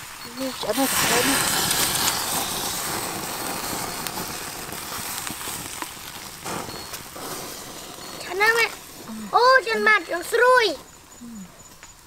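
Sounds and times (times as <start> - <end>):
fish sizzling on grill: 0.0 - 12.0
wood fire crackling and popping: 0.0 - 12.0.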